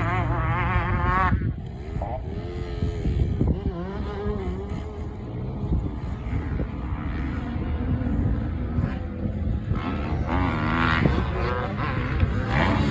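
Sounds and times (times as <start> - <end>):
small dirt bike engine running: 0.0 - 12.9.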